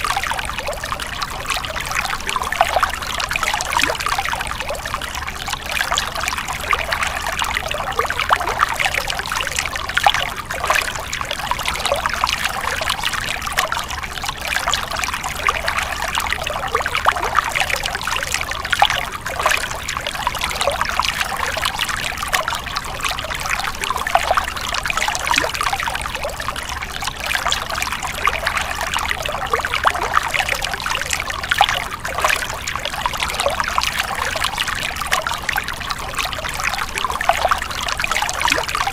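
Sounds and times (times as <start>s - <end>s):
stream water over rocks: 0.0s - 38.9s.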